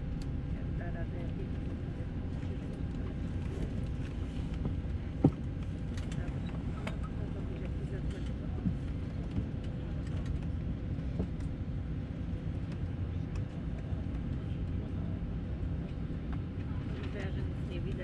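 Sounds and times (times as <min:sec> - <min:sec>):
faint constant hum: 0:00.0 - 0:18.0
low rumble inside aircraft cabin: 0:00.0 - 0:18.0.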